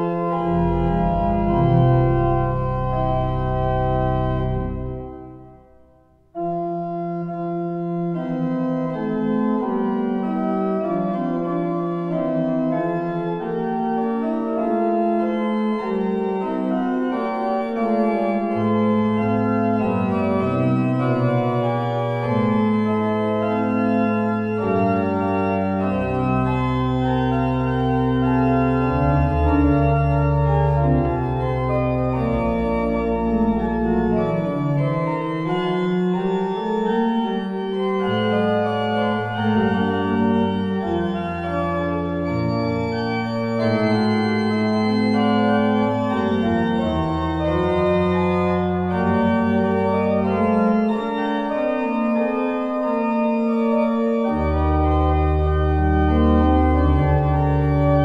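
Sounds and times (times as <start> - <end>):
organ pedal bass notes: 0.0 - 5.7, 6.4 - 58.0
pipe organ chords: 0.0 - 58.0.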